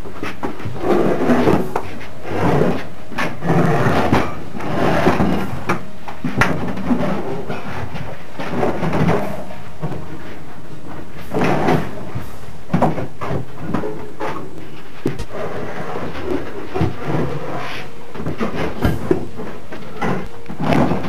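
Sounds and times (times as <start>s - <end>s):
metal wreckage scraping and clunking: 0.0s - 21.0s.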